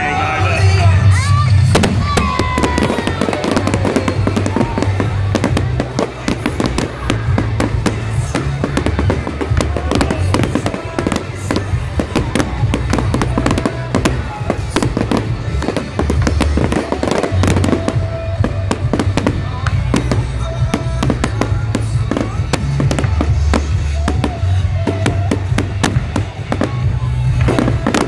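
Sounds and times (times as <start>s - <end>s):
fireworks bangs and crackles: 0.0s - 28.0s
music with pulsing bass: 0.0s - 28.0s.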